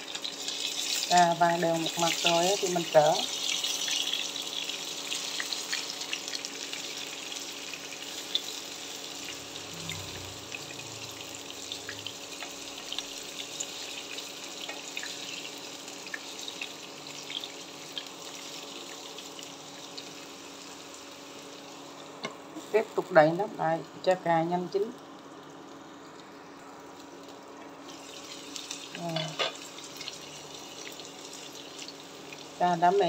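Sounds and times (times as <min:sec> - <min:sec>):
vegetables frying in hot oil: 0:00.0 - 0:33.0.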